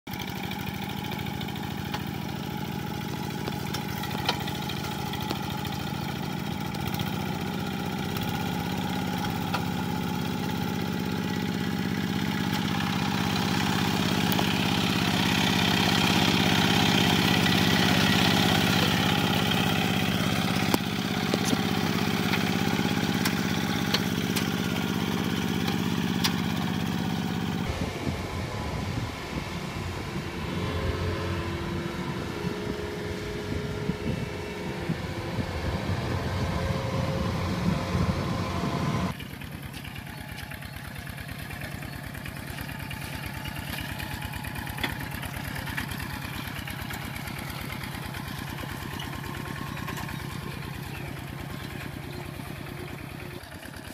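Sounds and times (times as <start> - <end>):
different engine sound: 0.1 - 53.9
tractor diesel engine running: 0.1 - 53.9.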